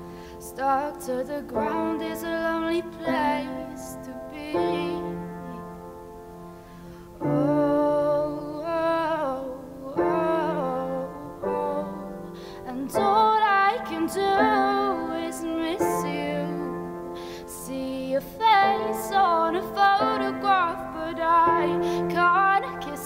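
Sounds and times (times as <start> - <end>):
woman singing: 0.0 - 6.0, 7.2 - 23.0
piano chords: 0.0 - 23.0.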